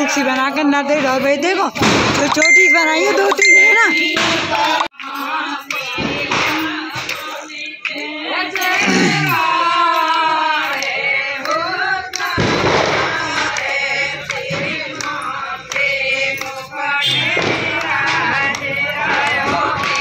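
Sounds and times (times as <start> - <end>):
women singing together: 0.0 - 20.0.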